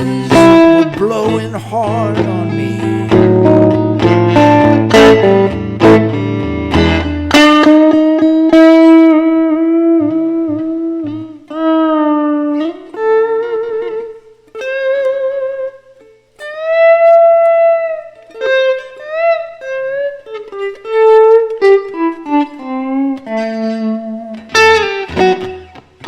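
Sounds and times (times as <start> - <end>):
electric blues guitar: 0.0 - 26.0.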